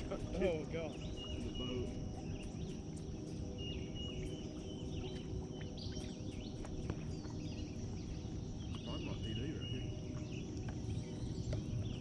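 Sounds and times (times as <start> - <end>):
birds chirping: 0.0 - 12.0
high insect drone: 0.0 - 12.0.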